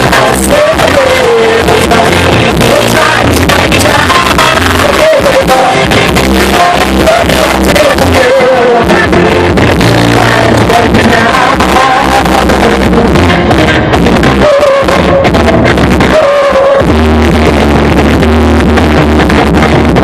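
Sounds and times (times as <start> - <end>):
distorted live rock band: 0.0 - 20.0.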